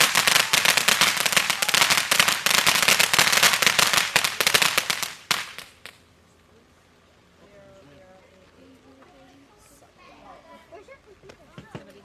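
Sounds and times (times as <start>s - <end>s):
firework fountain crackling: 0.0s - 9.7s.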